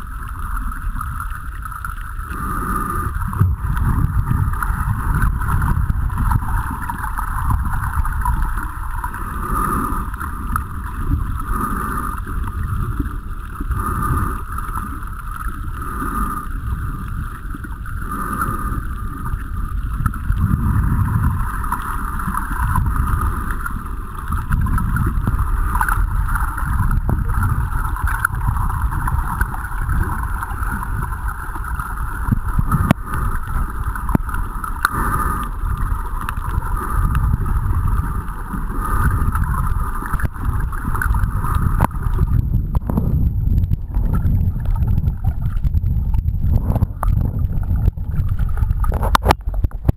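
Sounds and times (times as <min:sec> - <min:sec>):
muffled underwater rumble: 0:00.0 - 0:49.9.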